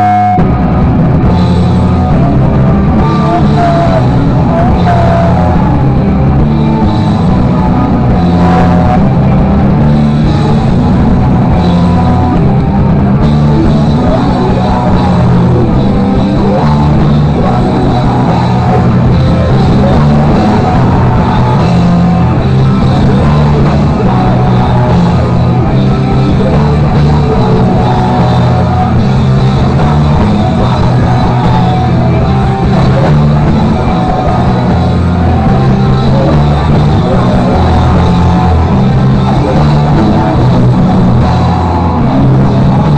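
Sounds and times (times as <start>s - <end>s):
drum kit: 0.0s - 42.9s
electric guitars: 0.0s - 42.9s.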